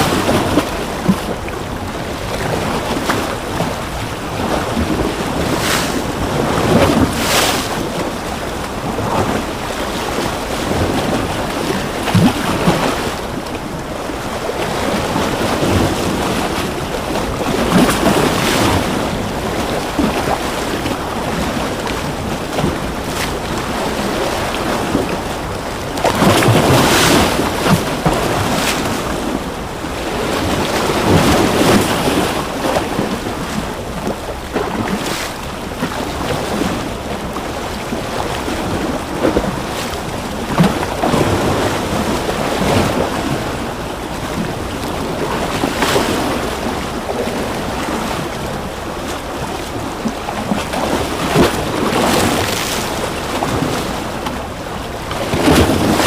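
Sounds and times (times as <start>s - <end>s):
waves breaking: 0.0s - 56.0s.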